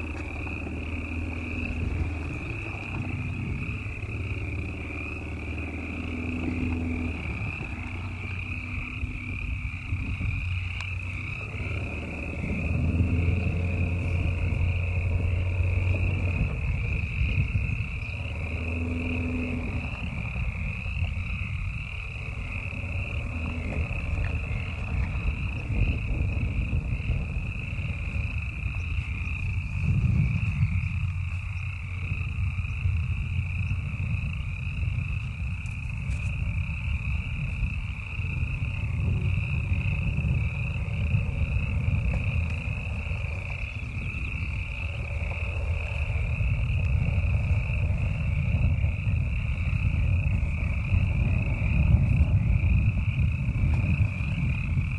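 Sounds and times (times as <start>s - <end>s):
car engine low rumble: 0.0s - 54.9s.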